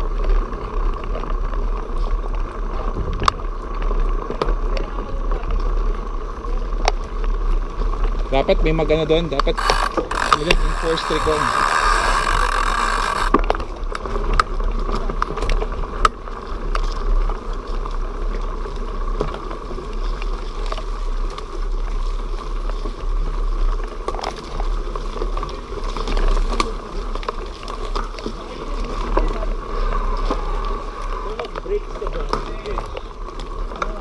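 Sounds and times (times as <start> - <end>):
bike clicks and rattles: 0.0 - 34.0
bike rolling on dirt trail: 0.0 - 34.0.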